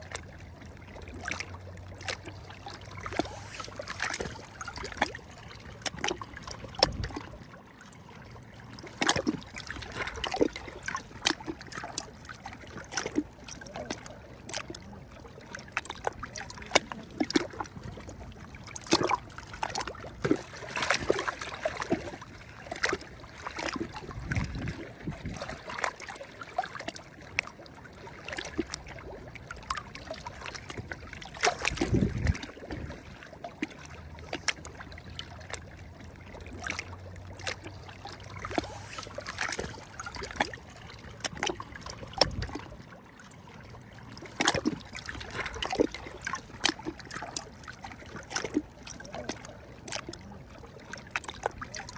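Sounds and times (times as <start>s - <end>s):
small waves lapping at shore: 0.0s - 51.9s.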